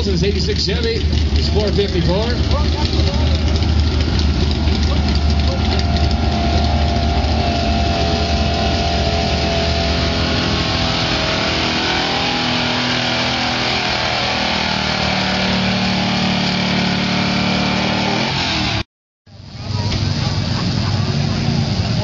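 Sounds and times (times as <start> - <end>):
pickup truck engine at full throttle: 0.0 - 22.0.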